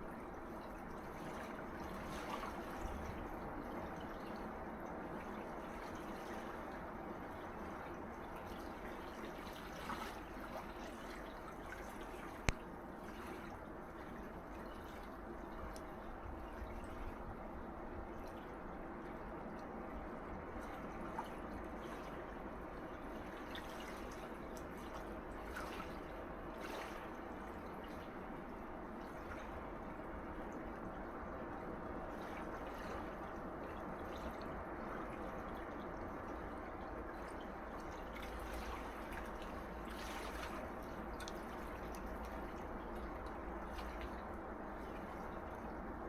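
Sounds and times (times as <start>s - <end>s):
small waves washing on shore: 0.0s - 46.0s
water trickling and dripping: 0.0s - 46.0s.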